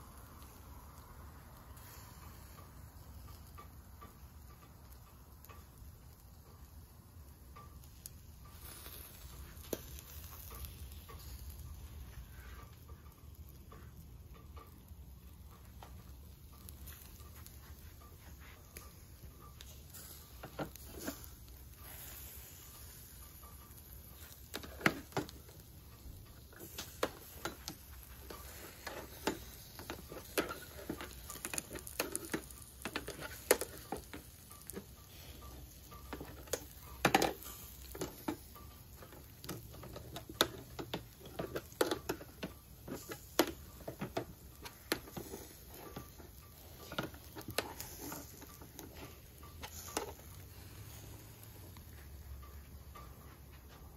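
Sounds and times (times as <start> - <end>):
meat grilling over charcoal: 0.0 - 53.9.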